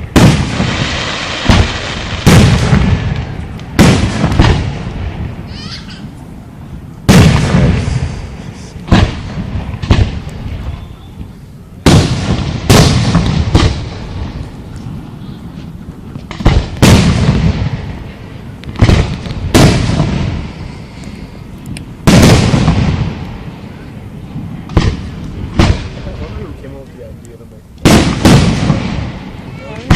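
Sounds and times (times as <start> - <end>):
fireworks booming: 0.0 - 29.9.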